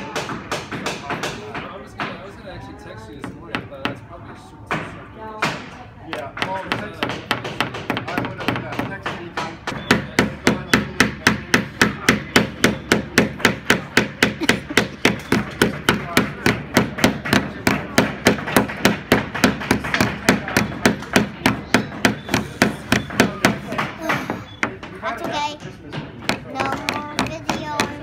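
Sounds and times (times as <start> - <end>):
hammer tapping nails into wood: 5.4 - 28.0.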